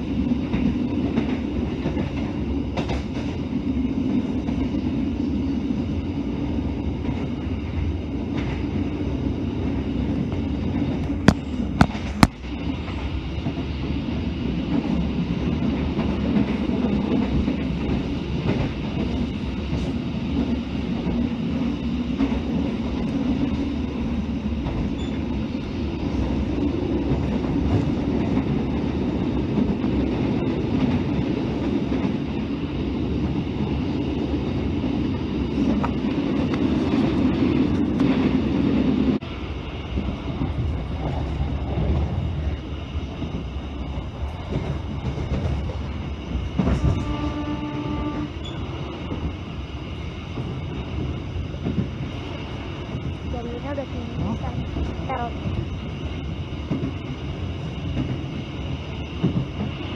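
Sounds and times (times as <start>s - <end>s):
train carriage rumbling on rails: 0.0s - 59.9s.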